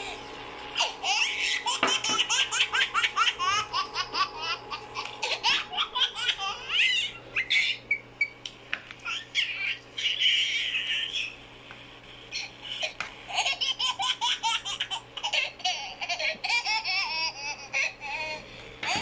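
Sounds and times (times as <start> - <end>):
child laughing: 0.8 - 7.8, 9.0 - 11.4, 12.4 - 19.0.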